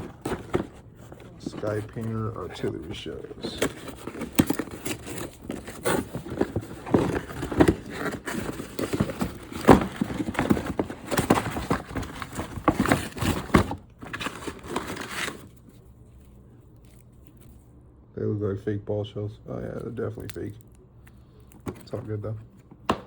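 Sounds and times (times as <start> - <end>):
plastic and cardboard crinkling: 0.0 - 17.6, 21.4 - 22.9.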